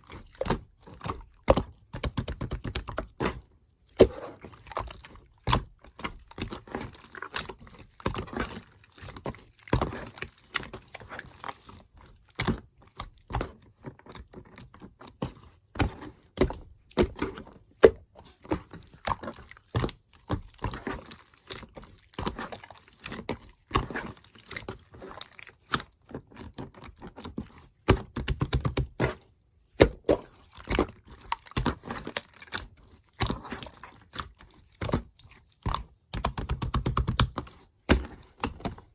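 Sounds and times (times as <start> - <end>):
slime squishing: 0.0 - 38.9.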